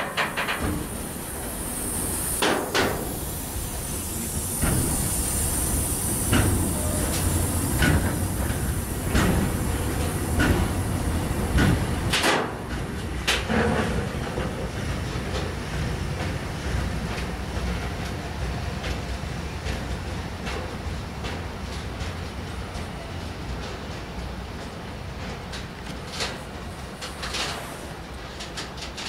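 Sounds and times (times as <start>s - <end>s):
freight train rumbling past: 0.0s - 29.0s
train wagons clanking: 0.0s - 29.0s.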